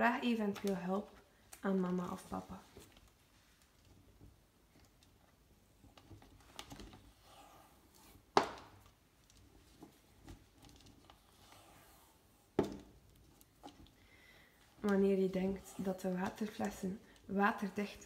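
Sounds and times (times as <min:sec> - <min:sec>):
soft rustling and clicks: 0:00.3 - 0:07.1, 0:07.8 - 0:18.0.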